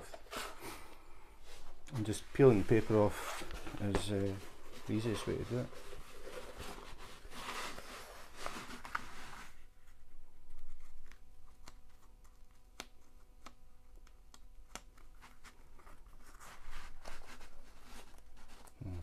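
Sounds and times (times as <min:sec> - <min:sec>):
paper rustling: 0:01.6 - 0:13.6, 0:14.6 - 0:18.8.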